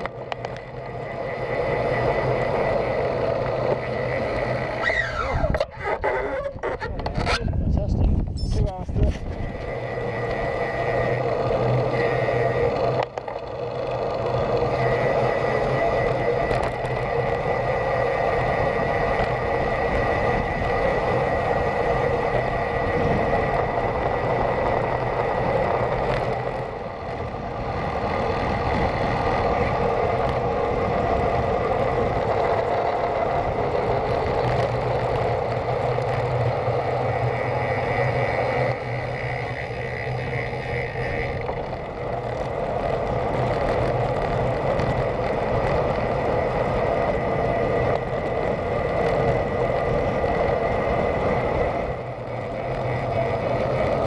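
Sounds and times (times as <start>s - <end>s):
tyre noise on tarmac: 0.0s - 54.0s
wind rushing over microphone: 0.0s - 54.0s.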